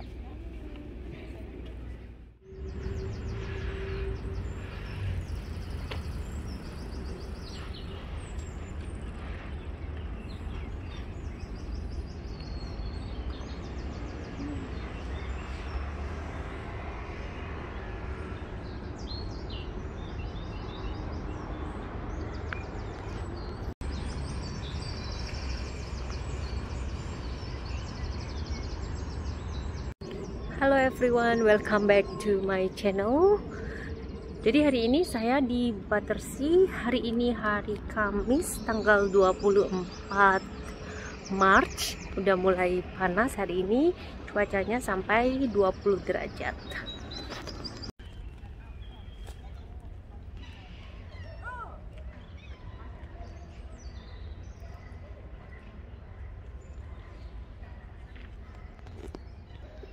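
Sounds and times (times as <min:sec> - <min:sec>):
small birds chirping: 0:00.0 - 0:16.5, 0:18.3 - 0:59.9.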